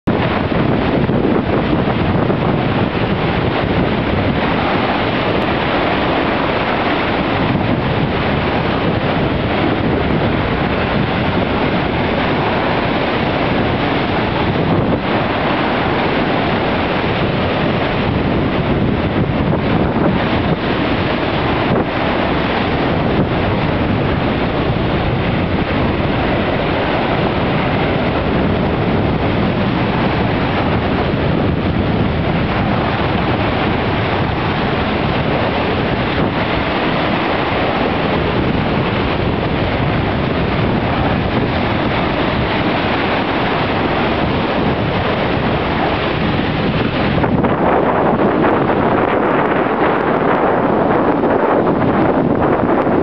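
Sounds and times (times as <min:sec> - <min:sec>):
waves crashing on seawall: 0:00.0 - 0:53.0
wind buffeting microphone: 0:00.0 - 0:53.0.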